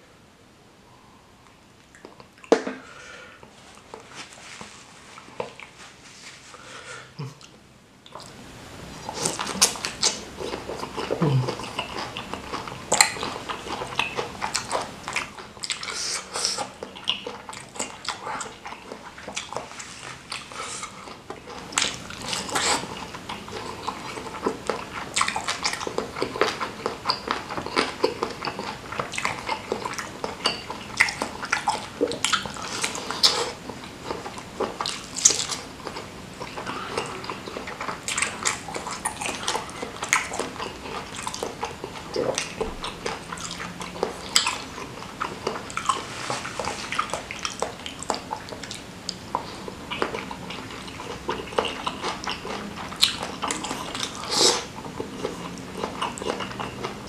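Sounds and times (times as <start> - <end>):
close chewing: 7.4 - 57.0.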